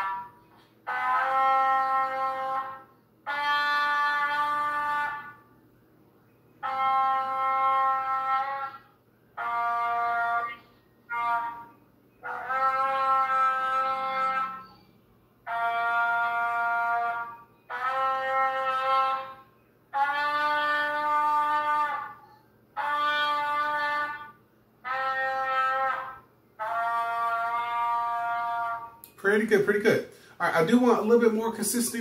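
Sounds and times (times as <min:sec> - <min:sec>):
trumpet playing held notes: 0:00.0 - 0:05.5, 0:06.6 - 0:32.0.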